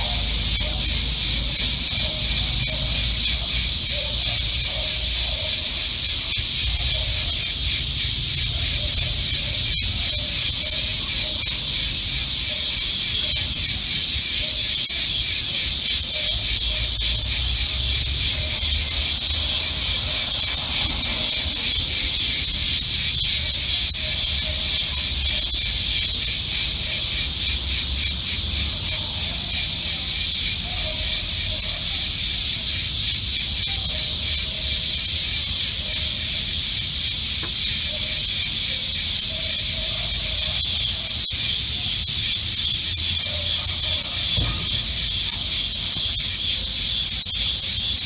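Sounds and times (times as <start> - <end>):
cicadas buzzing: 0.0 - 48.0.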